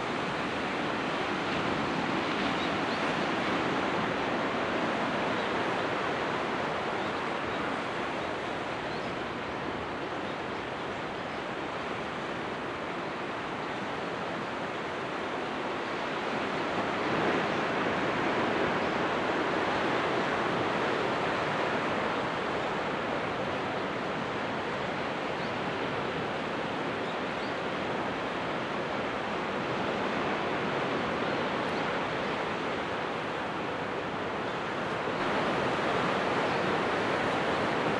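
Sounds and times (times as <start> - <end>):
surf washing over rocks: 0.0 - 37.9.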